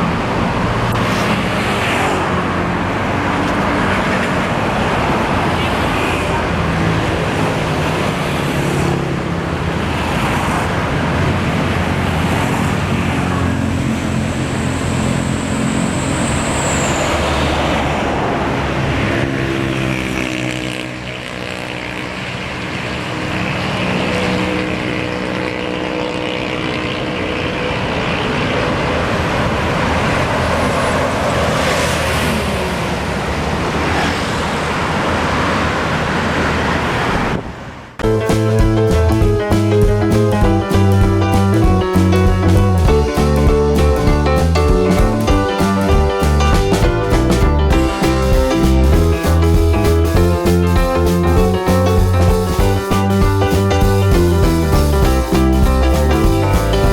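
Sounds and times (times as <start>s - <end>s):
bus diesel engines running: 0.0s - 56.9s
road traffic noise: 0.0s - 56.9s.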